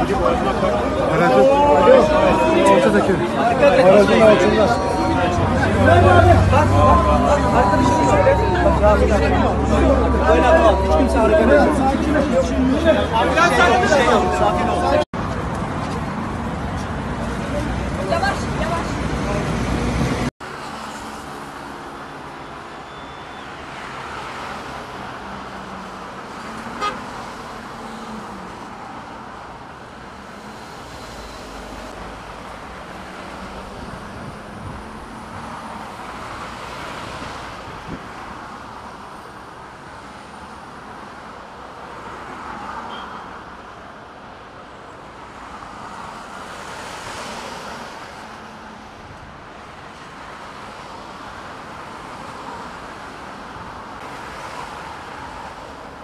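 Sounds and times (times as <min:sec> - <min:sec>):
cars passing by: 0:00.0 - 0:56.0.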